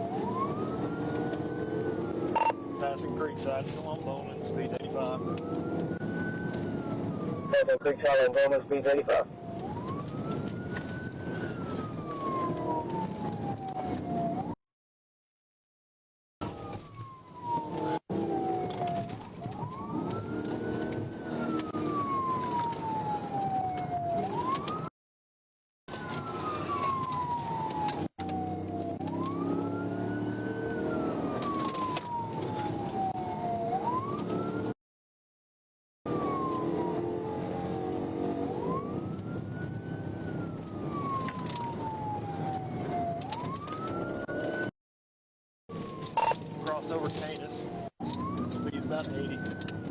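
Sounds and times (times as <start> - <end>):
car engine and road noise: 0.0 - 14.5, 16.4 - 24.9, 25.9 - 34.8, 36.1 - 44.7, 45.7 - 49.9
police siren wailing: 0.0 - 14.6, 16.4 - 24.9, 25.9 - 34.8, 36.1 - 44.7, 45.7 - 49.9.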